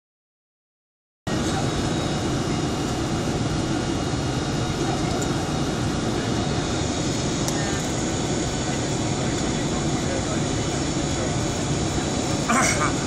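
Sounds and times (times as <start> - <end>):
jet engines in cabin: 1.3 - 13.0.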